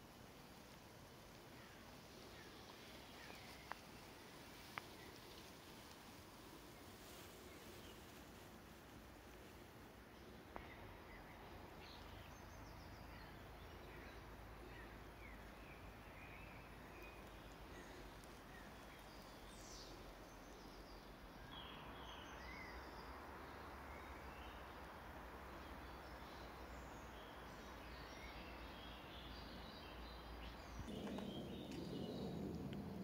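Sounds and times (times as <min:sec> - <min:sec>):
steady low hiss: 0:00.0 - 0:33.0.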